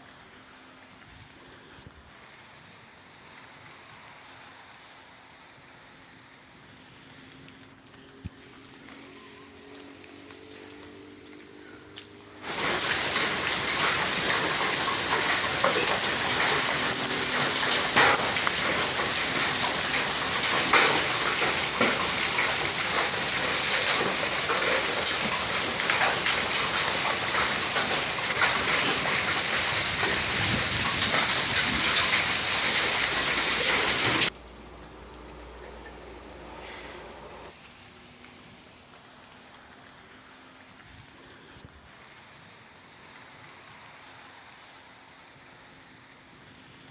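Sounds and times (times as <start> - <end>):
heavy rain downpour: 0.0 - 34.8, 37.4 - 46.9.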